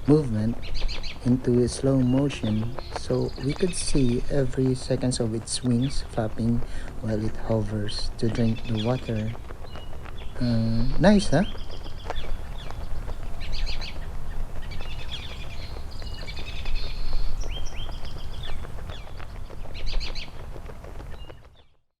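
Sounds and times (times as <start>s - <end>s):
steady low rumble: 0.0s - 21.4s
small birds chirping and trilling: 0.0s - 21.8s.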